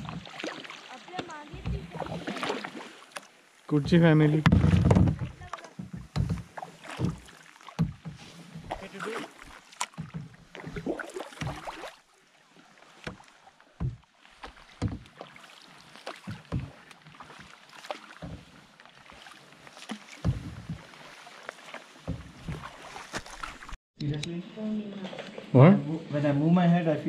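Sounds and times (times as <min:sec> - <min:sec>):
paddle strokes splashing: 0:00.0 - 0:23.8
faint water noise: 0:00.0 - 0:27.0.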